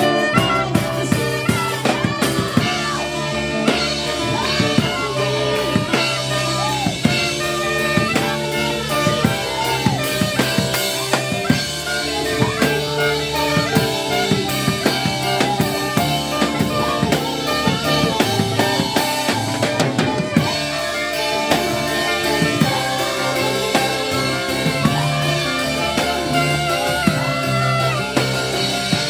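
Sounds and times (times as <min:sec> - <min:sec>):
drum kit hits: 0:00.0 - 0:29.0
live band music: 0:00.0 - 0:29.0.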